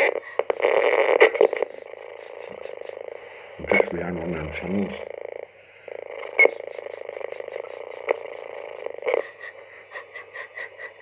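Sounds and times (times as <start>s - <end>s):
radio static hissing and crackling: 0.0s - 11.0s.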